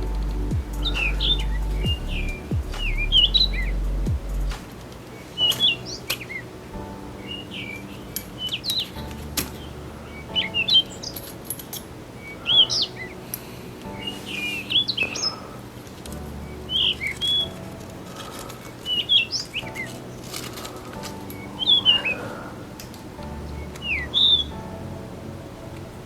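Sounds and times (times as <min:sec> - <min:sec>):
birds chirping: 0:00.0 - 0:26.0
faint music: 0:00.0 - 0:26.0.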